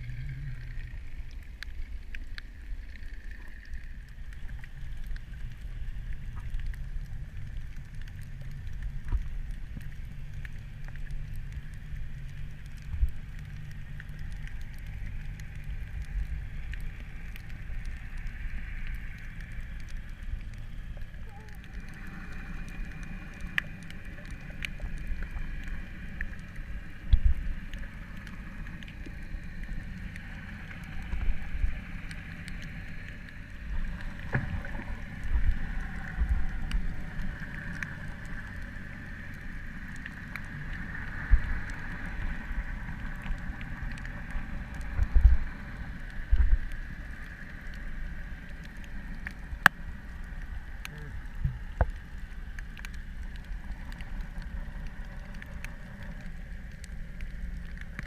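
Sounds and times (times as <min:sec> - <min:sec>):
faint clicks: 0:00.0 - 0:58.0
muffled underwater rush: 0:00.0 - 0:58.0.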